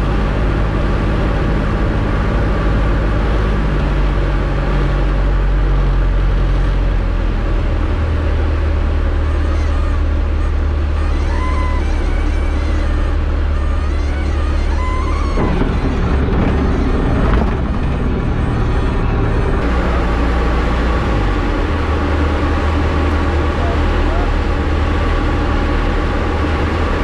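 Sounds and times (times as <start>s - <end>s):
light aircraft engine and propeller: 0.0s - 27.0s.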